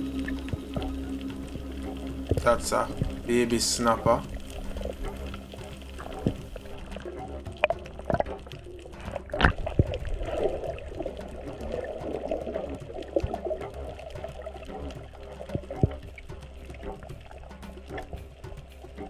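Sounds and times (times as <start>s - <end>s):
underwater water movement and gurgling: 0.0s - 19.0s.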